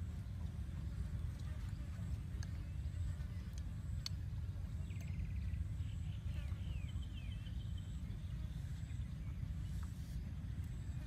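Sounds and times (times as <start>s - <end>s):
steady low rumble: 0.0s - 11.0s
birds calling: 0.8s - 11.0s.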